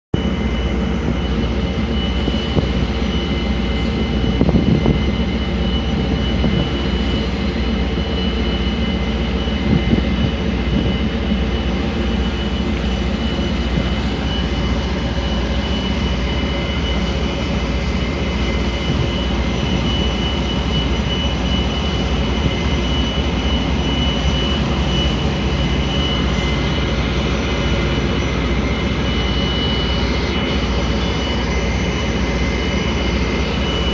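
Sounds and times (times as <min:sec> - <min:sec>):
barge engine drone: 0:00.2 - 0:33.9
high whine: 0:00.2 - 0:33.9.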